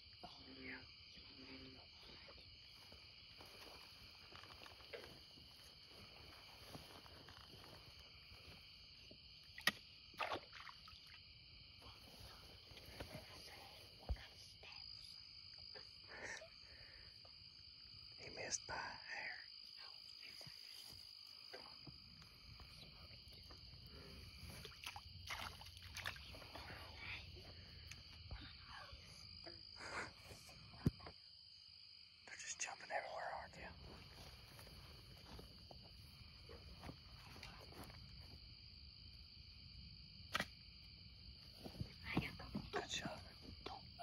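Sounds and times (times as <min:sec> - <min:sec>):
night insects chirping: 0:00.0 - 0:44.0.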